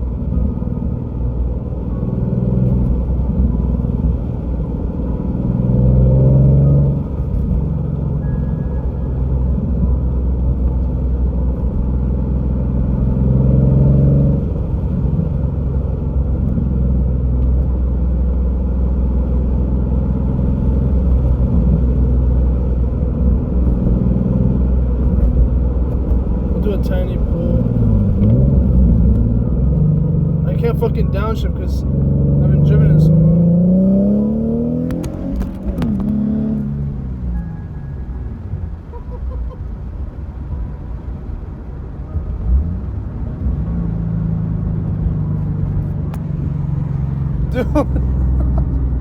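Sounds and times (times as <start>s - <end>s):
car exhaust drone: 0.0s - 49.0s.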